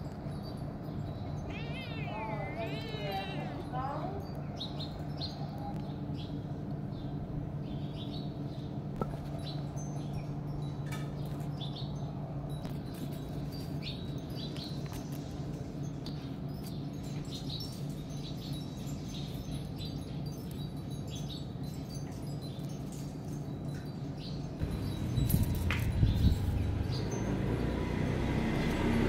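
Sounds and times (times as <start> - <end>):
small birds chirping: 0.3 - 29.0
steady low hum: 2.4 - 27.8.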